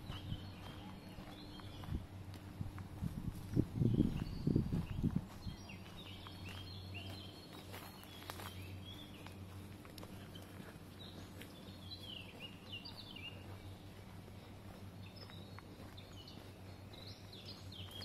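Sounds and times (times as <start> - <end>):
songbirds chirping and warbling: 0.0 - 18.0.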